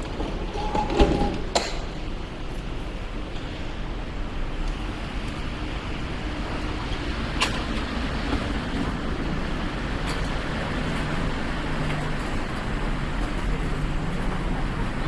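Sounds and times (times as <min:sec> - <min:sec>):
vehicle engines and road noise: 0:00.0 - 0:15.0.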